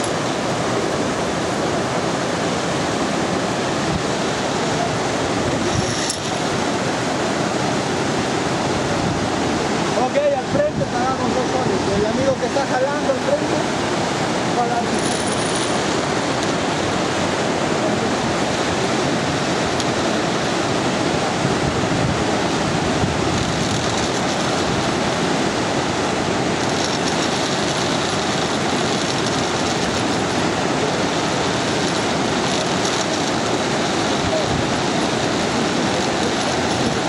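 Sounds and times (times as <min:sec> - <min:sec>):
whitewater river rushing: 0:00.0 - 0:37.0.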